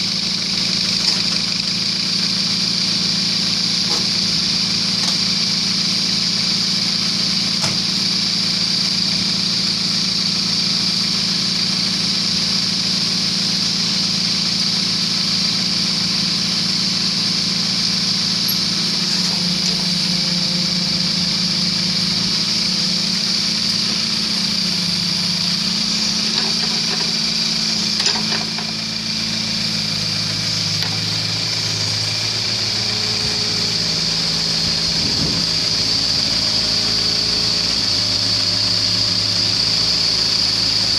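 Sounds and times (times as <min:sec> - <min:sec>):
diesel engine running: 0:00.0 - 0:40.9
high hydraulic whine: 0:00.0 - 0:40.9.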